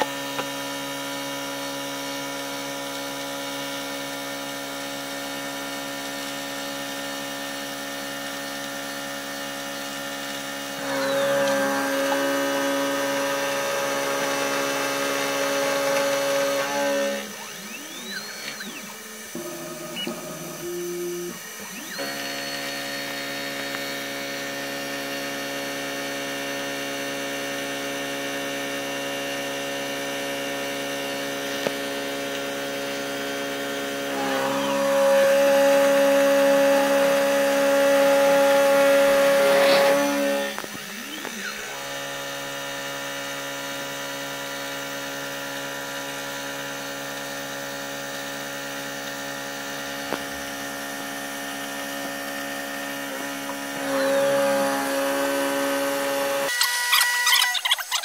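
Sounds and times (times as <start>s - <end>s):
end mill cutting metal: 0.0s - 58.0s
milling spindle whine: 0.0s - 58.0s.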